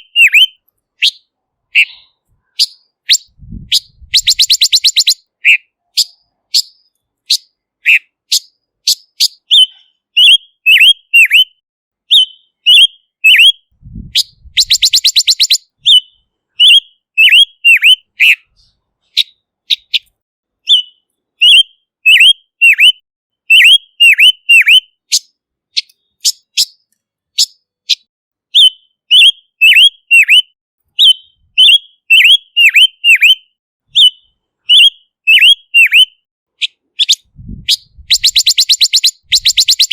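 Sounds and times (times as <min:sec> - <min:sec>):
bird whistled calls: 0:00.0 - 0:13.6, 0:14.2 - 0:26.8, 0:27.4 - 0:39.9.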